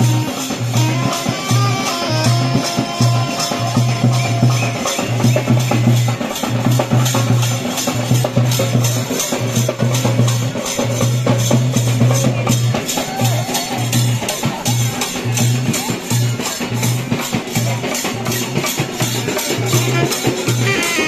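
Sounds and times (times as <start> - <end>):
procession drumming and percussion: 0.0 - 21.0.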